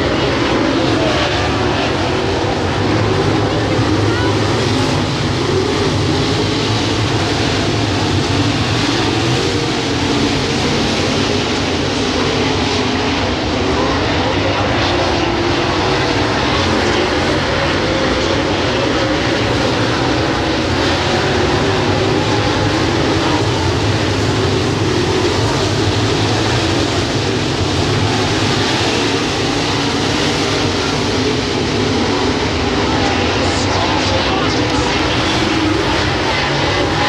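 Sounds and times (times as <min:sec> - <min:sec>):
race car engines roaring: 0:00.0 - 0:37.0.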